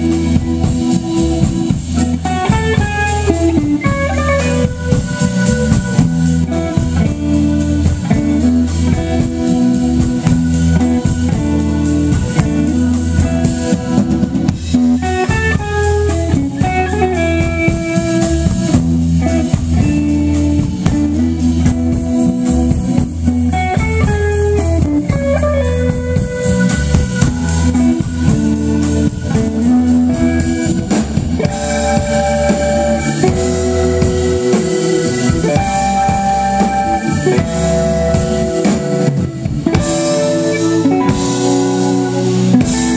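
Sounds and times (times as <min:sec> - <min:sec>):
drum kit: 0:00.0 - 0:42.9
electric guitar: 0:00.0 - 0:42.9
keyboard: 0:00.0 - 0:42.9.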